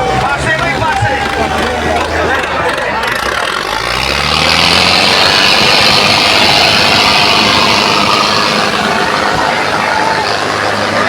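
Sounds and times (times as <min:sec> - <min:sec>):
tractor engines revving: 0:00.0 - 0:11.0.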